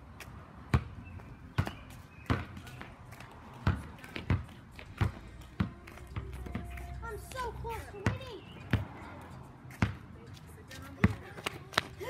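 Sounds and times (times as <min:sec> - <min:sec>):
ball bouncing on concrete: 0:00.2 - 0:12.0.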